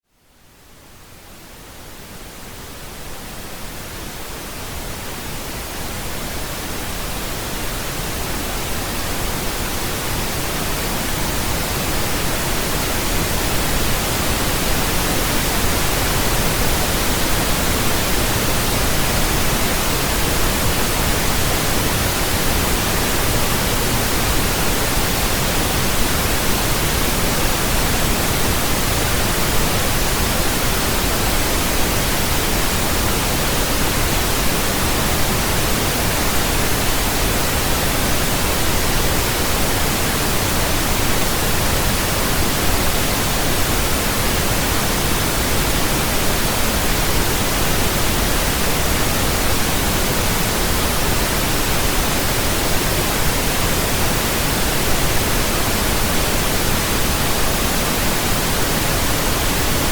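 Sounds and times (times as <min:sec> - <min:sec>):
pink noise hiss: 0:00.1 - 0:59.9.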